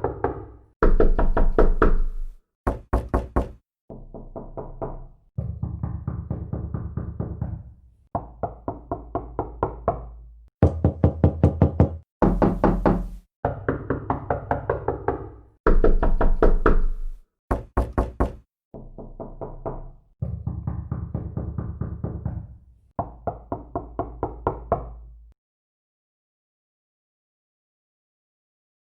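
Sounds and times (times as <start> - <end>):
sharp knocks on door: 0.0 - 10.0, 10.6 - 24.9.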